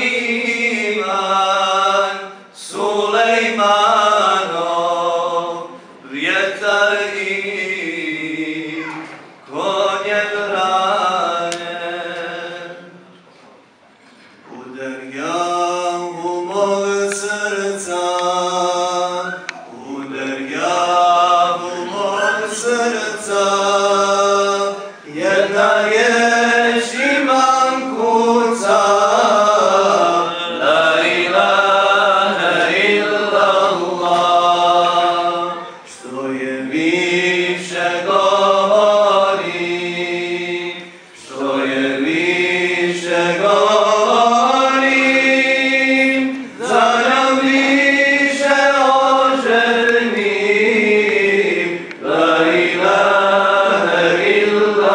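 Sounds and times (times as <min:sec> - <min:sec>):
man singing devotional chant: 0:00.0 - 0:08.8, 0:09.5 - 0:12.9, 0:14.5 - 0:54.9.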